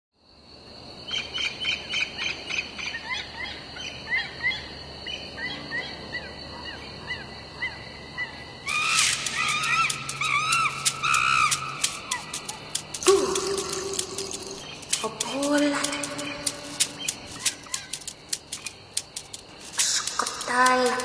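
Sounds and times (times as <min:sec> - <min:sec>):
birds chirping and calling: 0:01.4 - 0:21.0.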